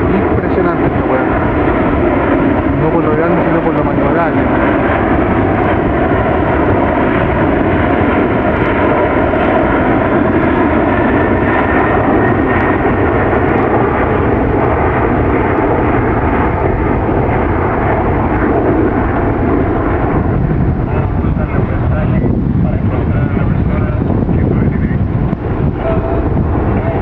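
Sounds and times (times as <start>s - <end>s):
faint engine whine: 0.0s - 27.0s
jet engines roaring: 0.0s - 27.0s.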